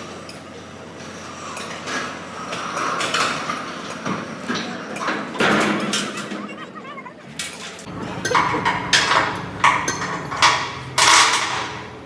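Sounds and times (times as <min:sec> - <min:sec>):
heavy metal parts clanking: 0:00.2 - 0:06.6, 0:07.3 - 0:12.0.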